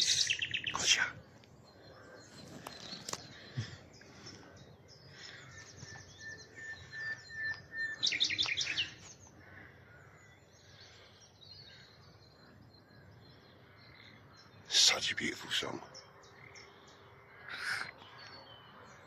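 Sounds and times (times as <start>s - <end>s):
nightingale singing: 0.0s - 19.0s.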